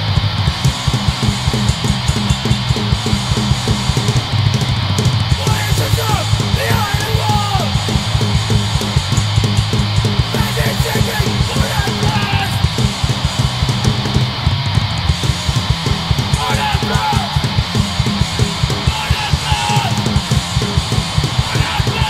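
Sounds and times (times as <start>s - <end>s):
bass guitar: 0.0s - 22.0s
distorted electric guitars: 0.0s - 22.0s
fast driving drums: 0.0s - 22.0s.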